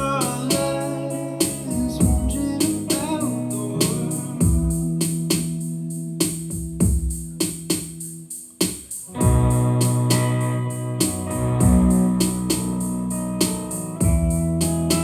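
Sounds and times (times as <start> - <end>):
keyboard chords: 0.0 - 8.5, 9.1 - 15.0
steady drum beat: 0.0 - 15.0.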